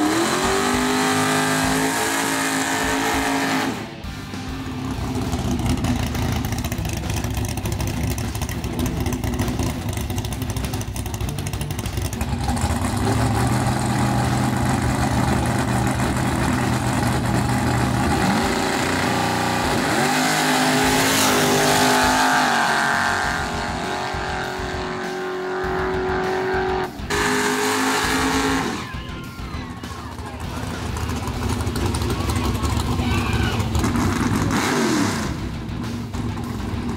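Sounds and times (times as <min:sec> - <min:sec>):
truck engine revving hard: 0:00.0 - 0:29.0, 0:30.4 - 0:36.9.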